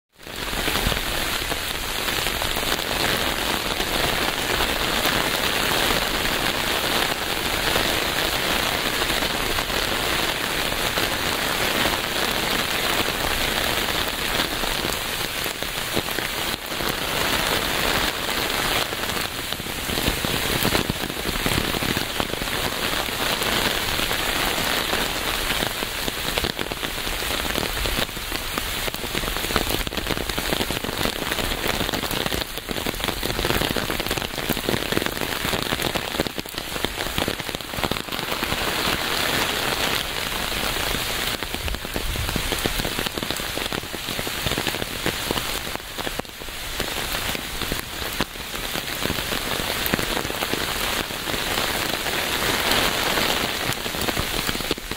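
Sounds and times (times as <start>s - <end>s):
rain falling: 0.1s - 54.9s.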